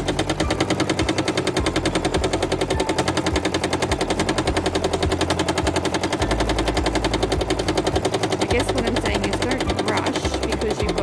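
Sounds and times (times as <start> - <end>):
sewing machine stitching fast: 0.0 - 11.0.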